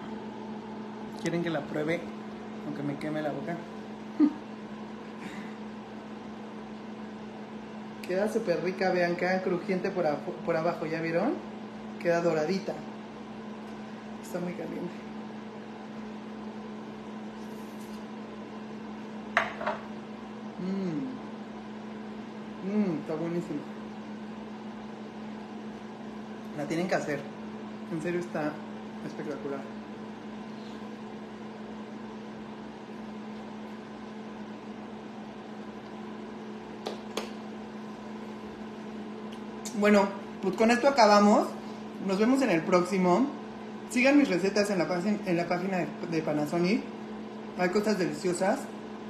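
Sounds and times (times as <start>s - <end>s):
appliance electrical hum: 0.0s - 49.0s.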